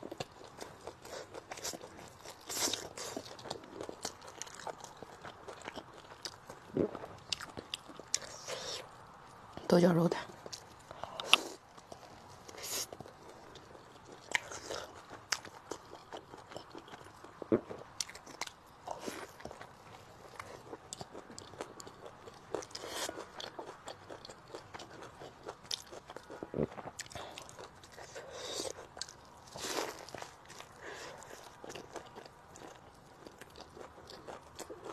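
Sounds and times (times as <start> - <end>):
person chewing noodles: 0.0 - 9.4, 10.4 - 34.9.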